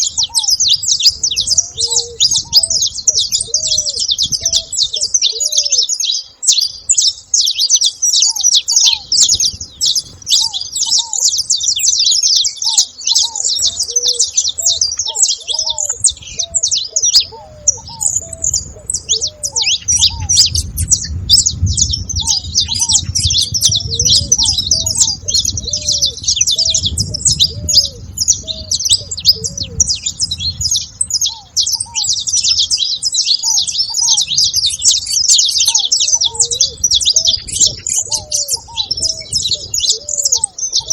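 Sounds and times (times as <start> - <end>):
finches chirping: 0.0 - 40.9
short low bird calls: 0.0 - 40.9.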